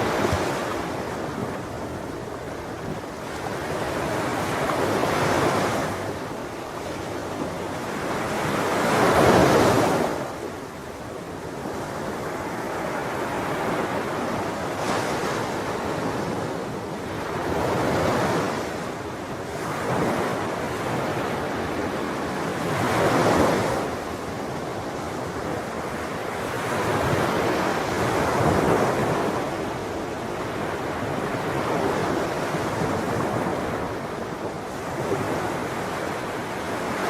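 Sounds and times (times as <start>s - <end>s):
sea waves breaking on shore: 0.0s - 37.0s.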